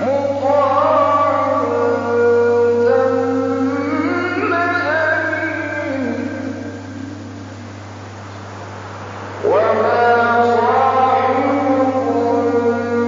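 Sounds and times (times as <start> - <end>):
man chanting melodically: 0.0 - 7.5, 9.4 - 13.0
steady low hum: 0.0 - 13.0.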